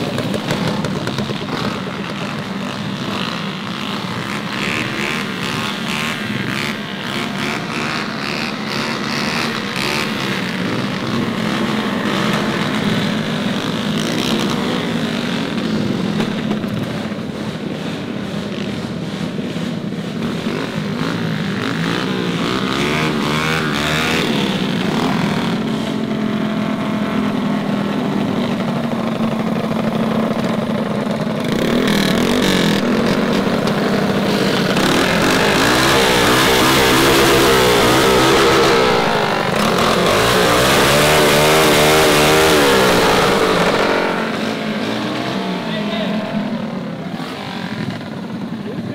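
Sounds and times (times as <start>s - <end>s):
mini bike engines revving: 0.0s - 48.9s.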